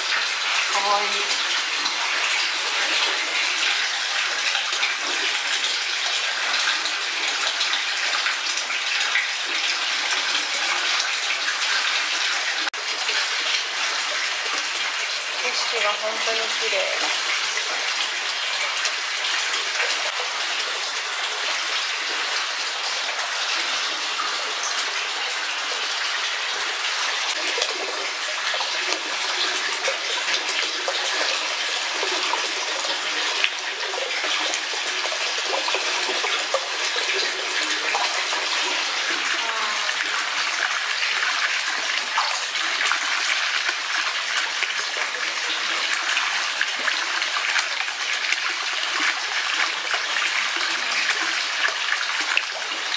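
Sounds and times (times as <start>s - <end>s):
running water rushing: 0.0s - 52.9s.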